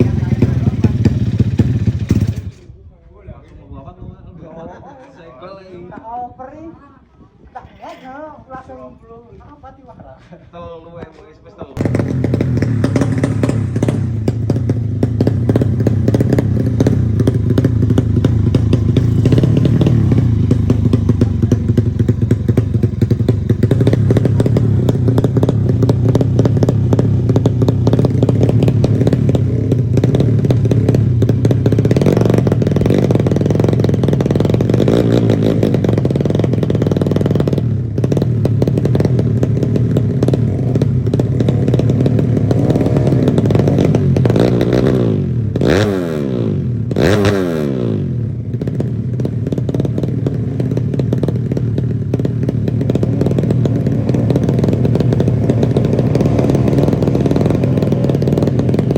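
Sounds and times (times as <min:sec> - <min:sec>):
motorcycle engine running: 0:00.0 - 0:02.8, 0:11.8 - 0:58.9.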